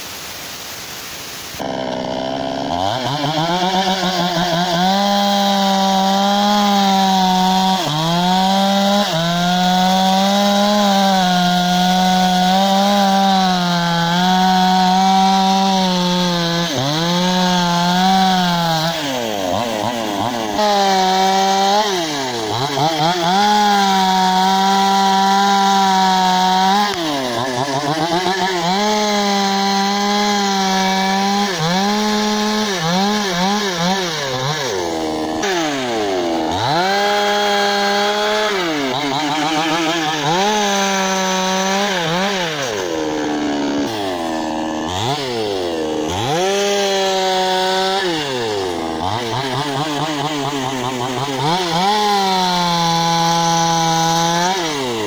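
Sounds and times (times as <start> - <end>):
chainsaw cutting branches: 1.5 - 55.0.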